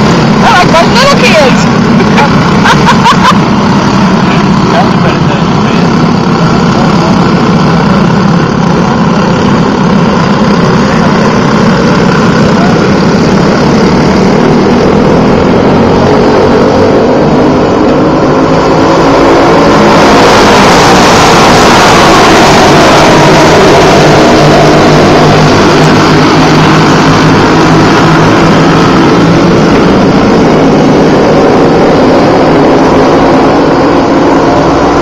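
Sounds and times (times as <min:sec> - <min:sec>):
racing kart engines droning: 0:00.0 - 0:35.0.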